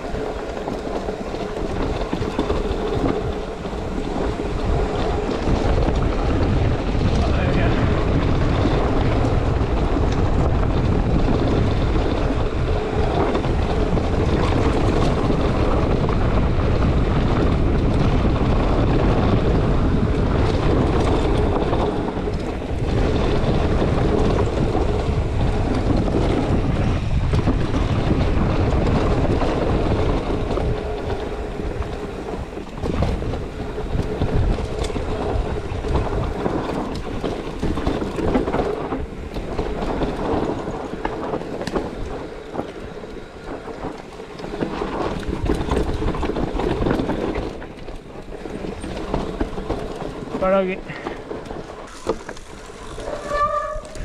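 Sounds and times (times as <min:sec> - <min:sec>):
bike rattling: 0:00.0 - 0:54.0
wind rush on microphone: 0:00.0 - 0:54.0.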